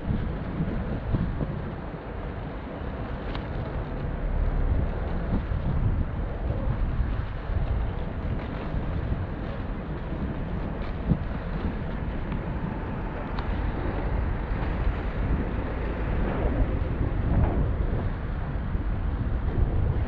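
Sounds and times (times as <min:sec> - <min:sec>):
low rumble: 0:00.0 - 0:20.0
wind buffeting microphone: 0:00.0 - 0:20.0.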